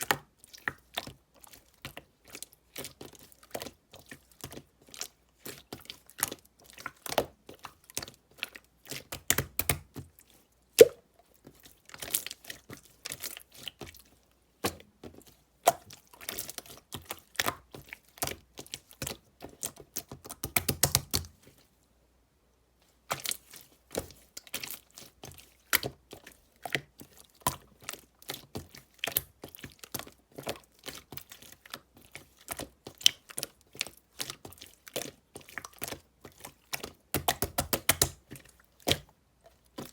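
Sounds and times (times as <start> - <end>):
slime squished by hand: 2.0 - 21.4, 23.0 - 39.9.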